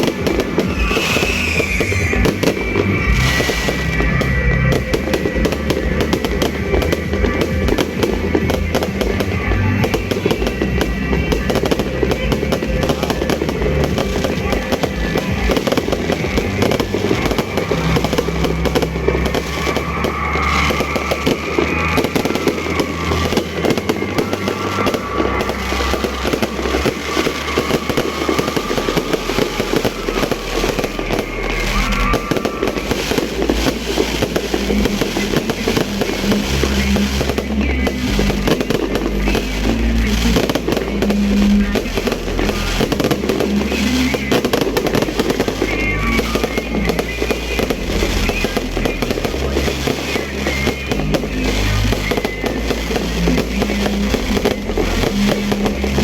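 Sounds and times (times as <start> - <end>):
fireworks crackling and banging: 0.0 - 56.0
music playing: 0.0 - 56.0.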